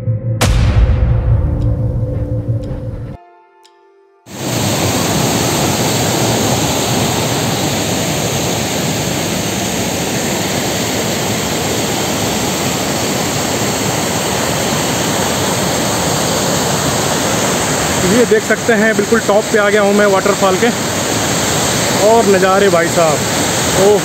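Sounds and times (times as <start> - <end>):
waterfall roaring: 4.3 - 24.0.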